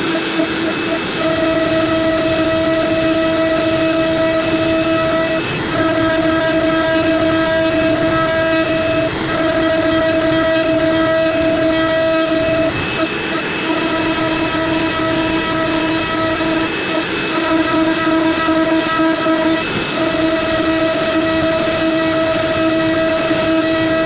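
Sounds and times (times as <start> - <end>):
router spindle high whine: 0.0 - 24.0.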